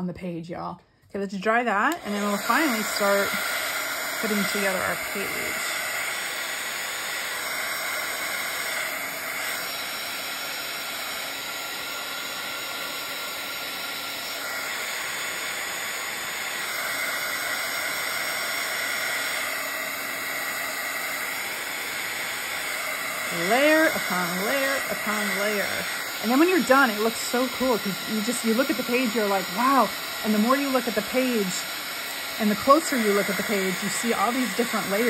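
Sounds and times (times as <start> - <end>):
heat tool blowing hiss: 1.9 - 35.0.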